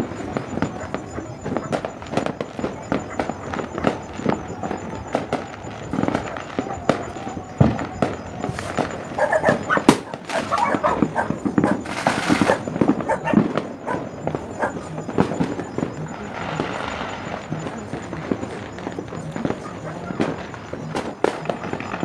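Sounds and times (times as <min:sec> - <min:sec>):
fireworks popping and banging: 0:00.0 - 0:22.0
dog barking: 0:00.2 - 0:05.2, 0:05.9 - 0:17.6, 0:18.8 - 0:20.8.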